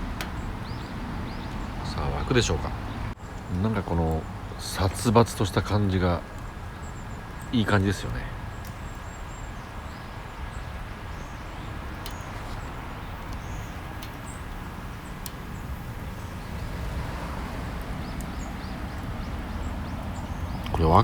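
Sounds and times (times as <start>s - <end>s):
outdoor background noise: 0.0s - 21.0s
wood fire crackling: 0.0s - 21.0s.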